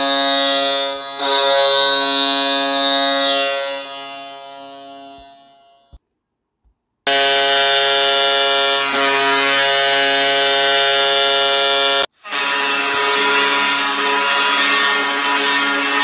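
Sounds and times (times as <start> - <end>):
goal horn: 0.0 - 6.0, 7.1 - 16.0.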